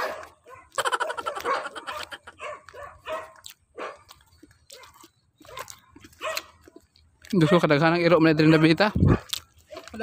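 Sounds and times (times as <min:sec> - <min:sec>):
dog barking: 0:00.0 - 0:06.8, 0:07.4 - 0:09.4.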